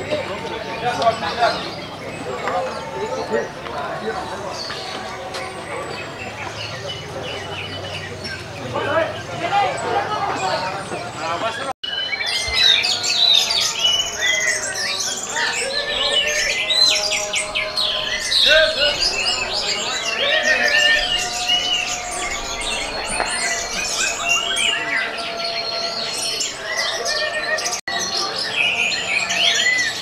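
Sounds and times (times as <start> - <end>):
chorus of thrushes singing: 0.0 - 30.0.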